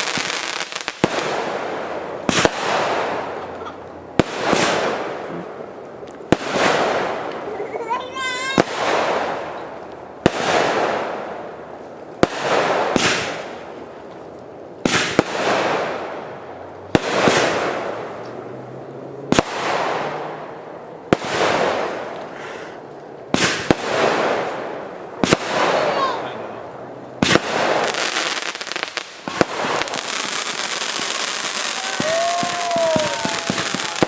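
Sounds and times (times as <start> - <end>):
crackling hiss of firework bursts: 0.0 - 3.6, 4.2 - 14.0, 14.8 - 18.4, 21.1 - 26.2, 27.2 - 34.0
firework bangs: 0.0 - 14.0, 14.8 - 18.5, 19.3 - 26.4, 27.2 - 34.0.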